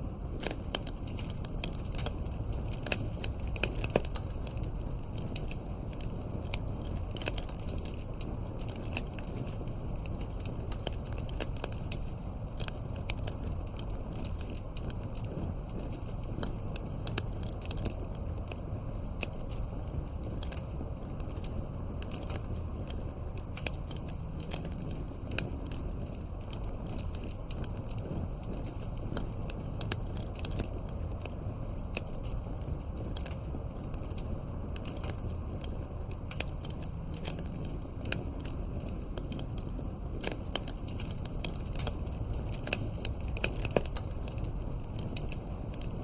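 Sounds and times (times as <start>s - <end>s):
campfire crackling and popping: 0.0s - 46.0s.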